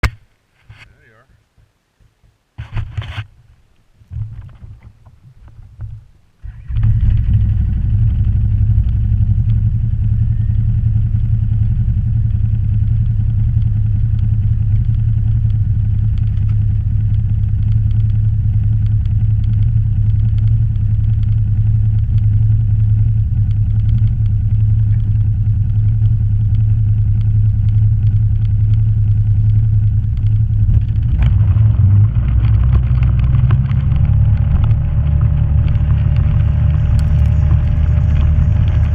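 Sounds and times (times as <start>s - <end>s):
off-road vehicle engine drone: 4.1s - 38.9s.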